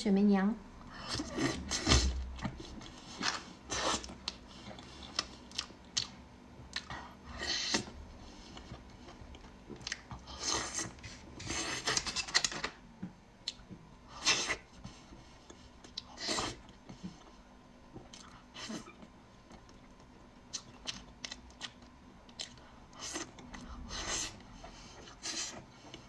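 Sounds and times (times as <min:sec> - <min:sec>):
person chewing soft cakes: 0:00.9 - 0:12.7, 0:13.4 - 0:26.0.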